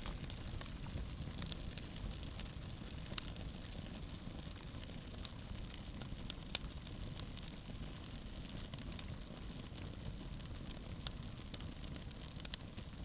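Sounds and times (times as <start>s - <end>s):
bonfire burning and crackling: 0.0s - 13.0s
sharp pops from fire: 0.0s - 13.0s.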